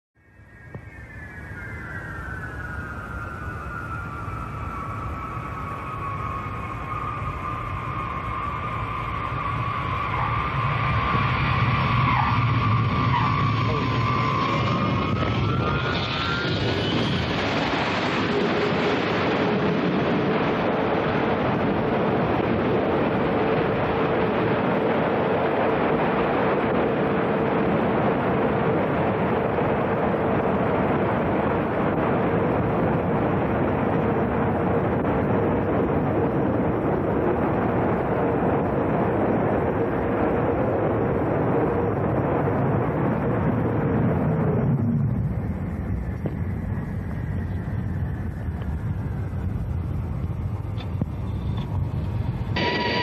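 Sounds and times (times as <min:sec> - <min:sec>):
jet engines rushing: 0:00.6 - 0:53.0
steady engine hum: 0:02.0 - 0:53.0.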